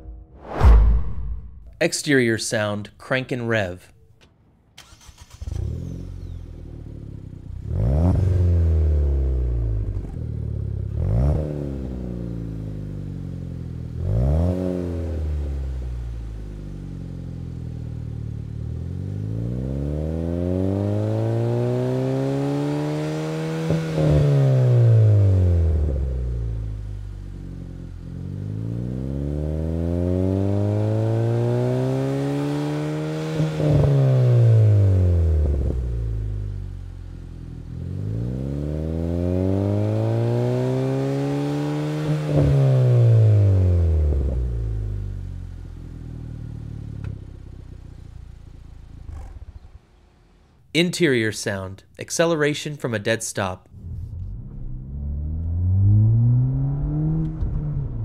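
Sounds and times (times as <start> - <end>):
car engine starting and revving: 4.7 - 50.6, 53.6 - 58.0.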